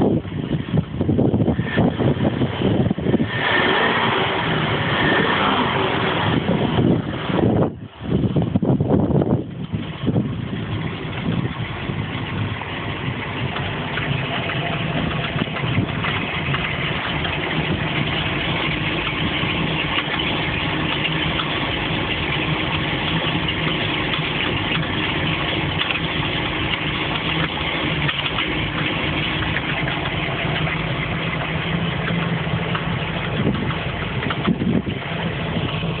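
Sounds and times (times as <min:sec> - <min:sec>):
boat engine idling: 0:00.0 - 0:36.0
strange engine noise: 0:00.0 - 0:36.0.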